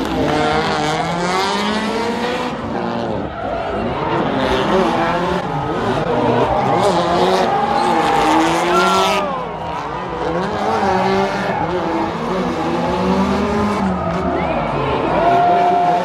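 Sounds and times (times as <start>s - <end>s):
car engines revving: 0.0s - 16.0s
tires screeching: 0.0s - 16.0s.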